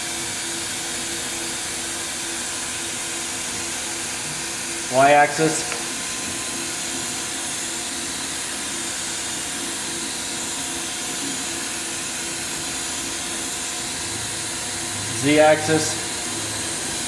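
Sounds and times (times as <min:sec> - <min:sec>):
machine running with hiss: 0:00.0 - 0:17.0.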